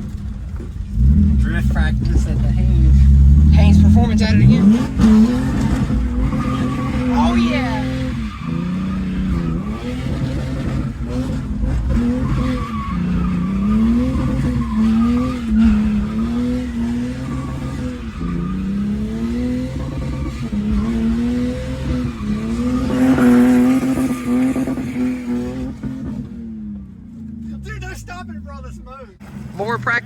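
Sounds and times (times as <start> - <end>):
car engine revving: 0.0 - 30.0
tyres skidding and squealing: 0.0 - 30.0.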